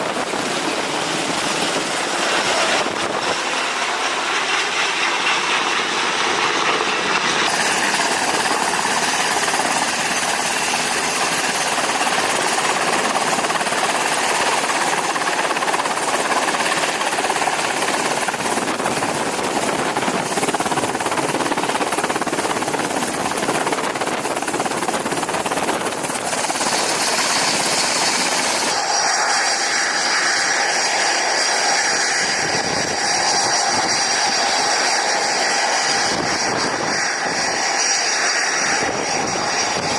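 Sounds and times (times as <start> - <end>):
aircraft engines running: 0.0 - 39.9
high engine whine: 0.0 - 39.9.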